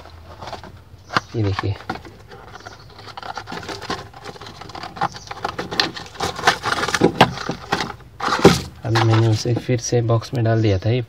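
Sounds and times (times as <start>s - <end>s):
hands rummaging through parts: 0.0s - 9.8s.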